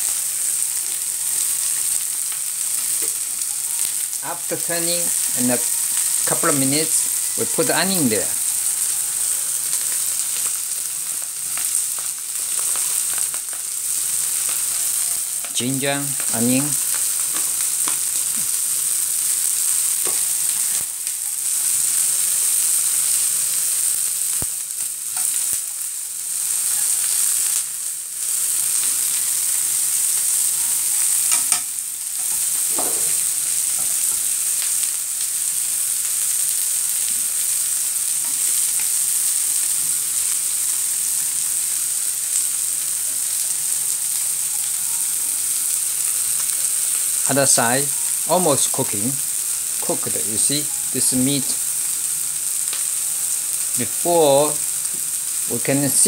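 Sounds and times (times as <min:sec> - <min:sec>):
prawns sizzling in oil: 0:00.0 - 0:56.0.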